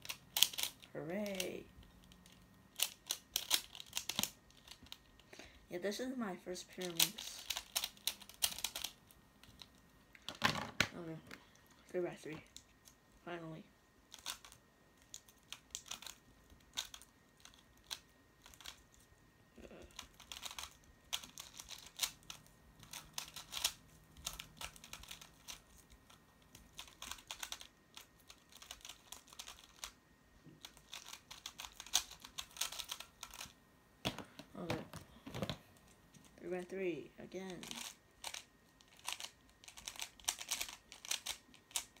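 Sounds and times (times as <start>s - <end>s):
puzzle cube plastic clicks: 0.0s - 5.4s, 6.8s - 11.4s, 14.1s - 36.3s, 37.4s - 42.0s.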